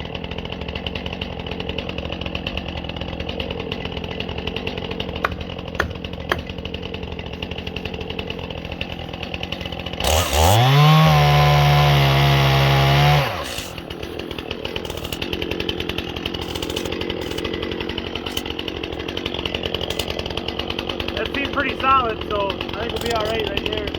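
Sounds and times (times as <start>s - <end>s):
chainsaw idling and revving: 0.0s - 23.9s.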